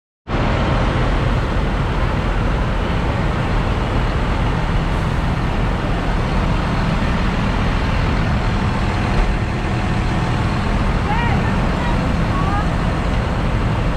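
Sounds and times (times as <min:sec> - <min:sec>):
diesel engine idling: 0:00.3 - 0:13.9.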